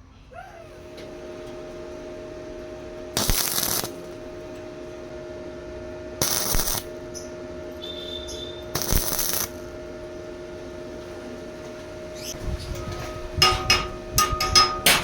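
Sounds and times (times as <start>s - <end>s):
electrical hum: 0.0s - 15.0s
welding arc crackling: 0.7s - 15.0s.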